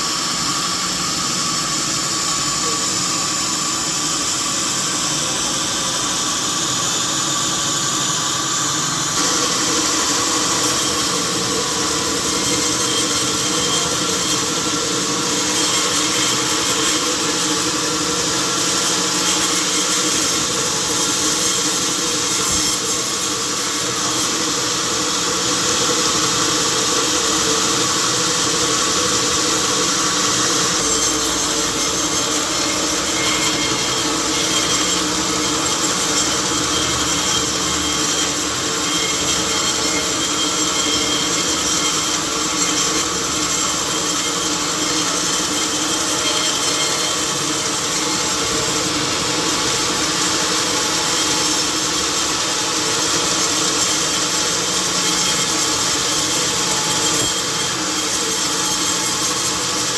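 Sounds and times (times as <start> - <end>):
saw cutting through log: 0.0 - 59.9.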